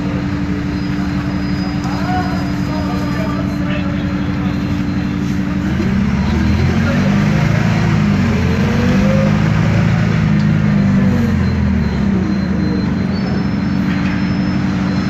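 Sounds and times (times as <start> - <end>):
bus diesel engine running: 0.0 - 15.0
driveline whine: 0.0 - 15.0.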